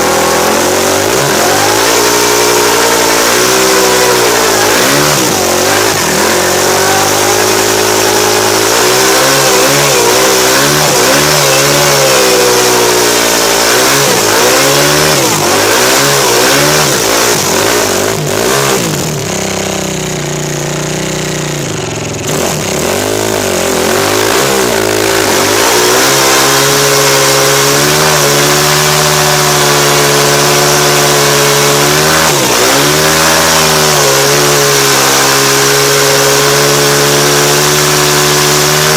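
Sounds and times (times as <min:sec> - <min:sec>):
motorcycle engine revving hard: 0:00.0 - 0:38.9.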